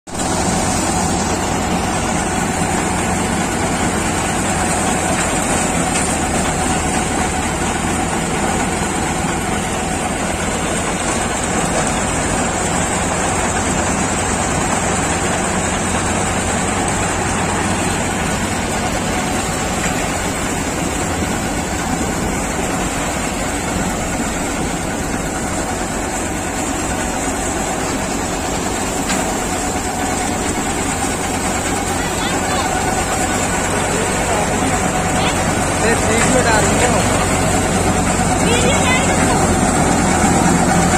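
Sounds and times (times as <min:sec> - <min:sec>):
thresher machine drone: 0:00.1 - 0:40.9.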